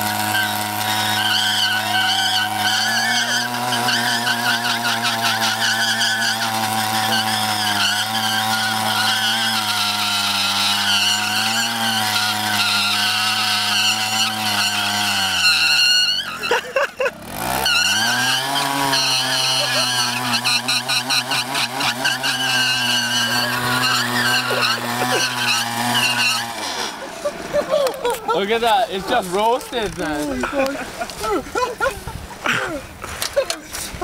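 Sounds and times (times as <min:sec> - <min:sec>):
tyre spinning on wooden plank: 0:00.0 - 0:16.6, 0:17.2 - 0:31.3
minibike engine revving: 0:00.0 - 0:34.0.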